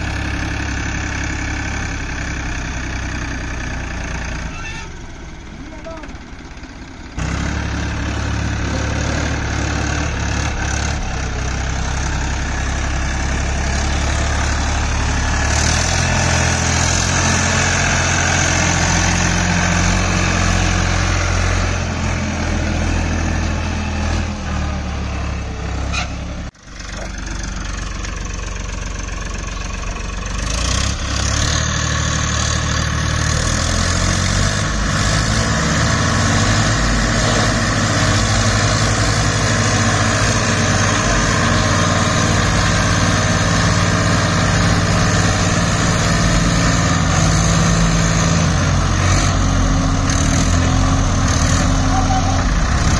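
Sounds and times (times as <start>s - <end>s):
diesel tractor engine under load: 0.0s - 52.9s.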